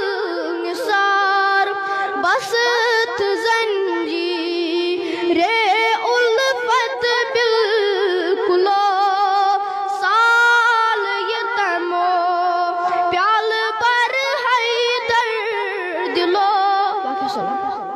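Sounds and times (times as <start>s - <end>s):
boy singing devotional song: 0.0s - 17.9s.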